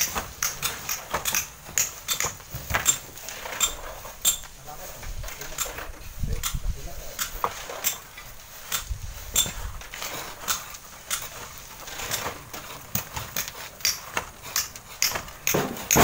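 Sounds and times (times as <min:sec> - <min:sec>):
bamboo poles scraping stone: 0:00.0 - 0:16.0.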